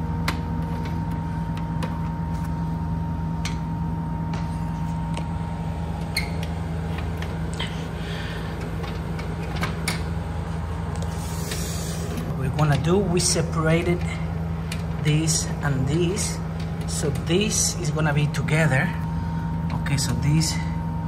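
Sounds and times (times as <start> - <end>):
high whine: 0.0 - 21.0
low mechanical hum: 0.0 - 21.0.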